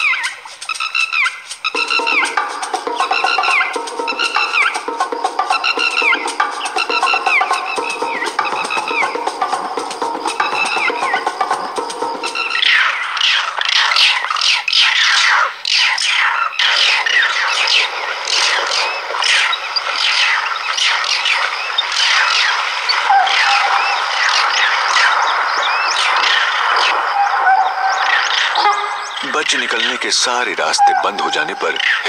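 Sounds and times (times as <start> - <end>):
high-pitched squeaking animal calls: 0.0 - 32.0.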